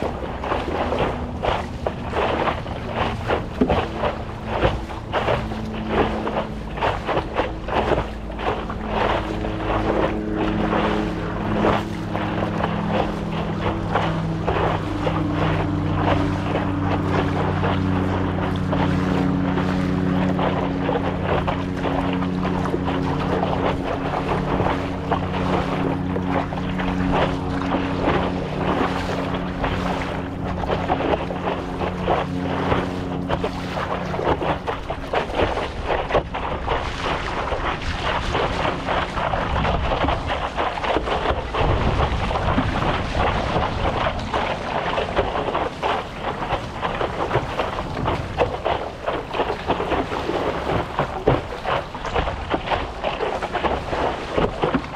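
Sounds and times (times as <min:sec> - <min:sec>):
steady low hum: 0:00.0 - 0:54.9
water splashing against paddleboard: 0:00.0 - 0:54.9
wind buffeting microphone: 0:00.0 - 0:54.9.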